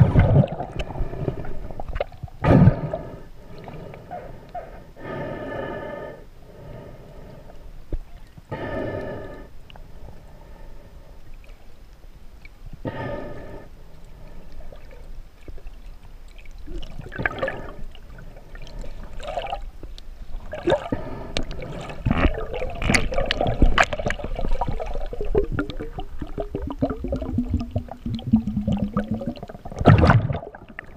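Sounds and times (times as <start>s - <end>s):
water gurgling and sloshing: 0.0s - 5.4s, 6.4s - 30.9s.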